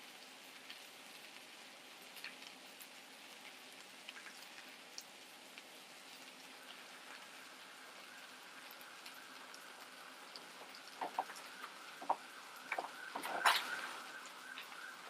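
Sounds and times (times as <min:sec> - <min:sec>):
seafood sizzling and popping: 0:00.0 - 0:15.0.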